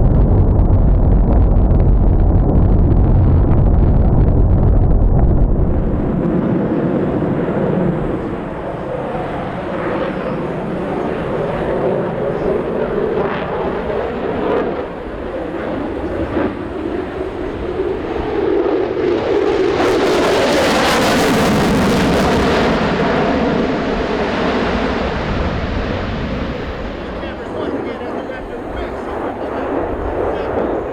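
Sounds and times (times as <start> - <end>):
jet engines passing: 0.0 - 30.9.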